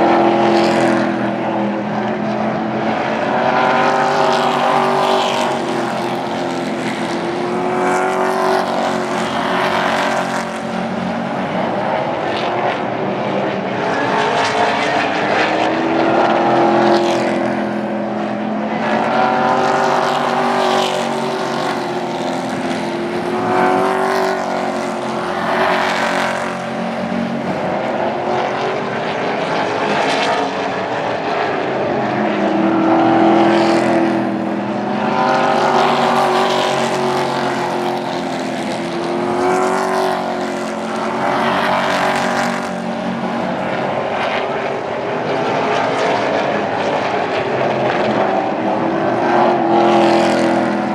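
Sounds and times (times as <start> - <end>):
racing truck engines passing: 0.0 - 50.9.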